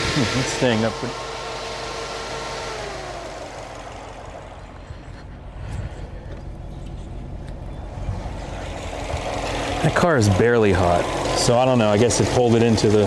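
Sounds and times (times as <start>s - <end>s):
car engine idling: 0.0s - 13.0s
high-pitched whine: 0.0s - 13.0s.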